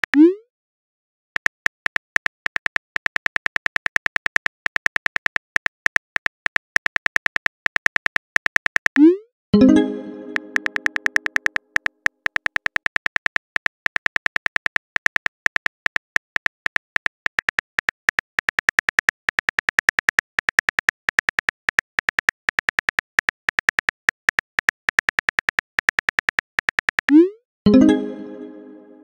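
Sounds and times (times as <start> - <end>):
phone keyboard typing clicks: 1.4 - 28.4.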